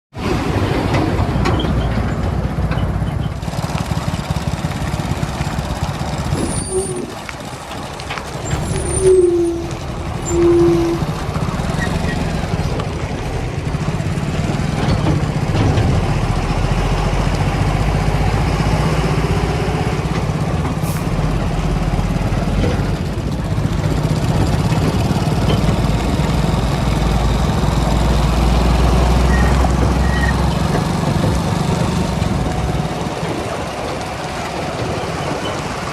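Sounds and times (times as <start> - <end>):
heavy machine diesel engine: 0.2 - 35.9.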